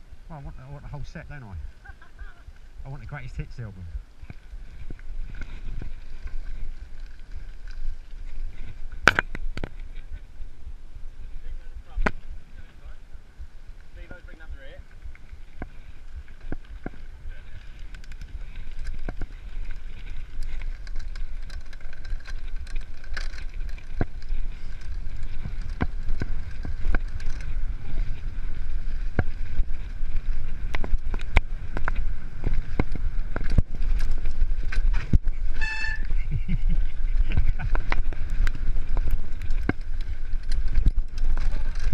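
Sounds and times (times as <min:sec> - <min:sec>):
wind rumble on microphone: 0:00.0 - 0:41.9
bike clicking and rattling: 0:01.0 - 0:41.9.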